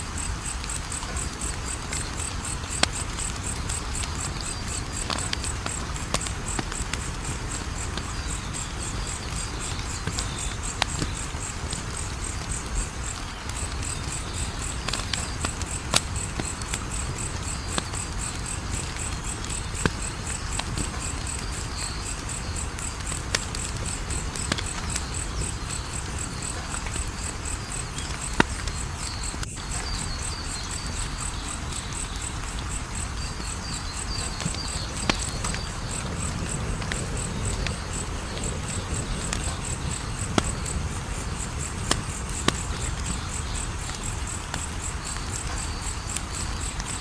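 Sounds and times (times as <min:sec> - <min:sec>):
crickets chirping: 0:00.0 - 0:47.0
wood fire crackling: 0:00.0 - 0:47.0.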